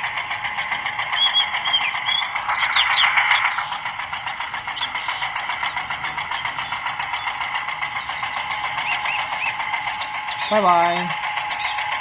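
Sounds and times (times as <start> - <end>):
fast even ticking: 0.0 - 12.0.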